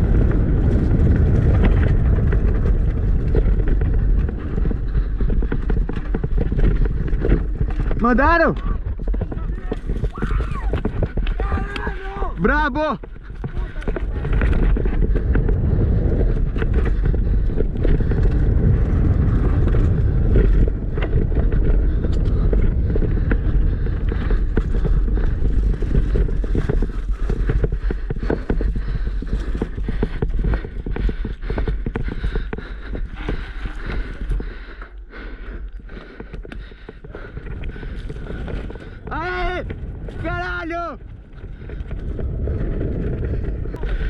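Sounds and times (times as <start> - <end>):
tyres rumbling over rough ground: 0.0 - 44.0
wind on microphone: 0.0 - 44.0.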